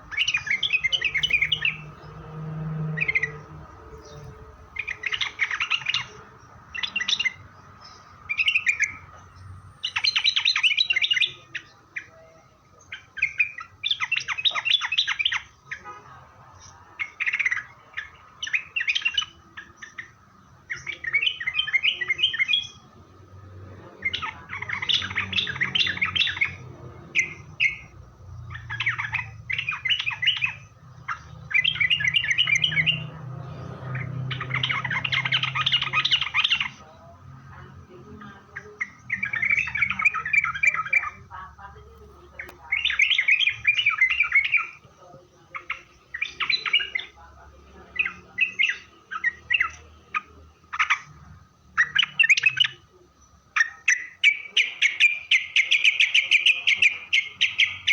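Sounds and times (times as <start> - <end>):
bird singing chattering phrases: 0.0 - 57.9.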